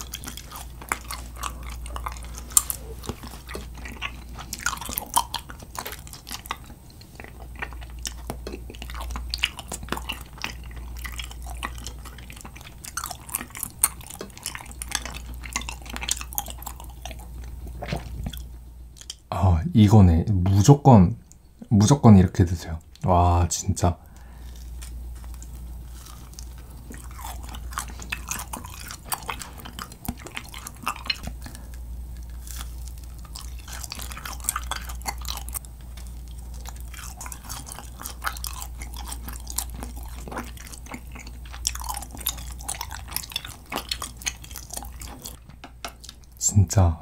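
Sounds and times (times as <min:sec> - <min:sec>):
chewing with wet mouth smacks: 0:00.0 - 0:19.3, 0:24.1 - 0:46.4
steady low hum: 0:00.0 - 0:47.0.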